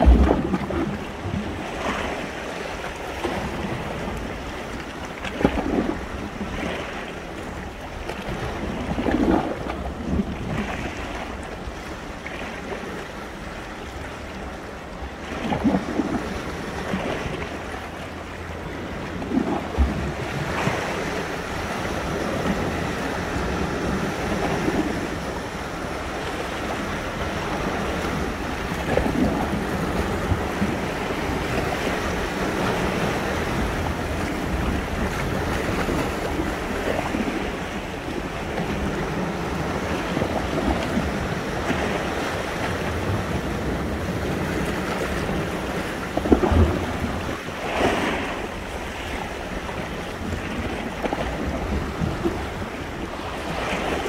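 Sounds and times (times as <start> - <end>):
sea waves washing onto shore: 0.0 - 54.0
wind on the microphone: 0.0 - 54.0.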